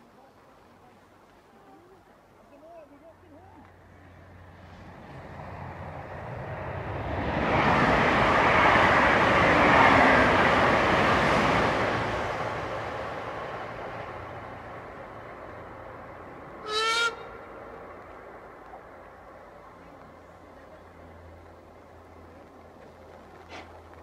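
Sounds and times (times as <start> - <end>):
vehicle passing: 3.7 - 24.0.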